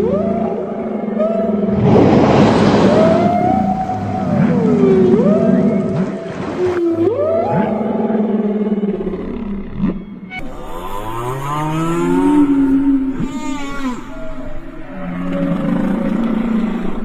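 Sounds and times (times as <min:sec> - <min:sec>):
whale high warbling call: 0:00.0 - 0:16.9
whale moans: 0:00.0 - 0:17.0.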